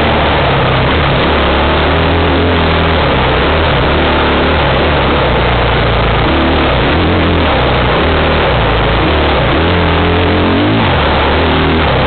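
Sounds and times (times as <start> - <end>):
off-road vehicle engine revving: 0.0 - 12.0
wind rumble on microphone: 0.0 - 12.0.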